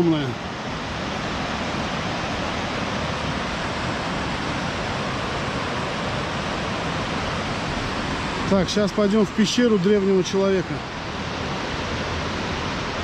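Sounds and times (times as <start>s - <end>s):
mountain stream water rushing: 0.0s - 13.0s.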